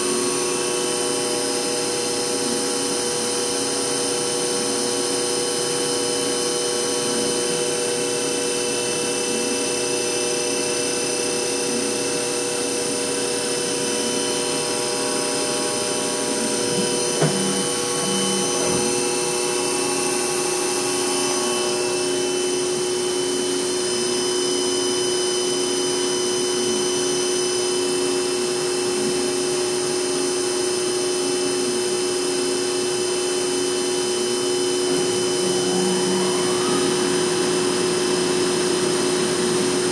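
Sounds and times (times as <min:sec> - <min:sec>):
machine spindle whine: 0:00.0 - 0:39.9.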